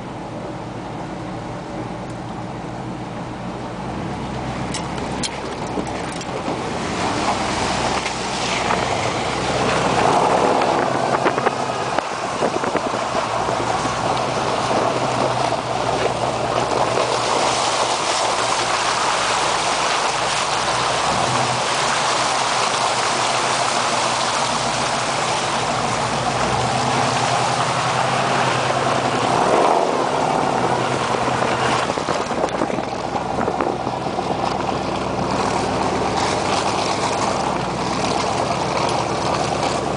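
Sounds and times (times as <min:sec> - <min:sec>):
truck engine running: 0:00.0 - 0:39.9
water splashing: 0:03.8 - 0:39.9.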